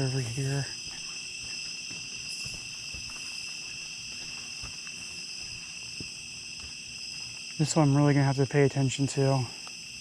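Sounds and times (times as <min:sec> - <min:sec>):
crickets and insects trilling: 0:00.0 - 0:10.0.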